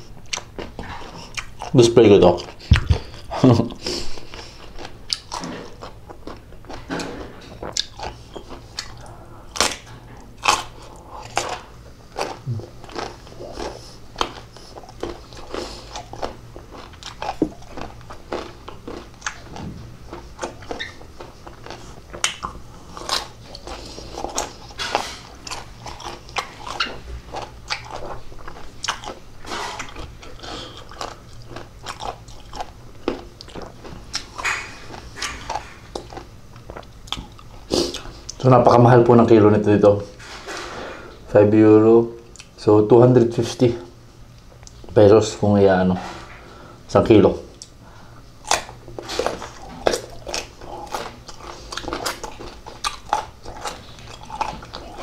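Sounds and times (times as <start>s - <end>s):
person chewing crunchy food: 0.0s - 38.5s, 47.5s - 55.0s.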